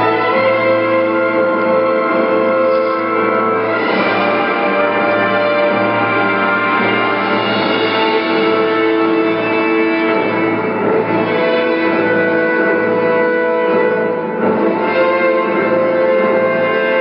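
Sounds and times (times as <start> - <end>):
orchestral music: 0.0 - 17.0.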